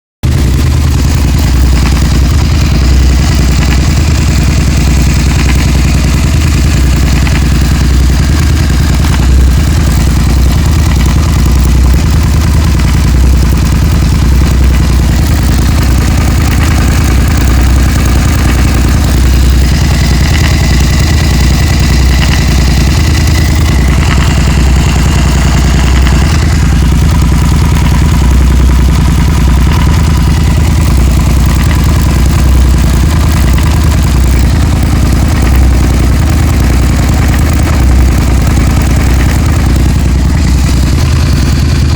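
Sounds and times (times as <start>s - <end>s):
motorcycle engine idling: 0.2s - 41.9s
rapid engine ticking: 0.2s - 41.9s.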